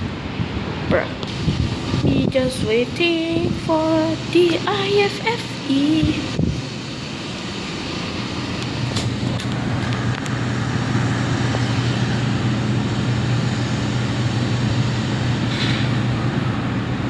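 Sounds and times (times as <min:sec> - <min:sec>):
lift low hum: 0:00.0 - 0:17.0.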